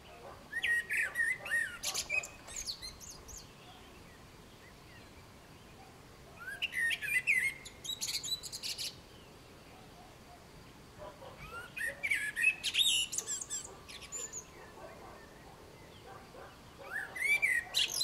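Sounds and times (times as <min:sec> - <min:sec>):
blackbird singing: 0:00.0 - 0:05.8, 0:06.4 - 0:10.2, 0:11.0 - 0:18.0.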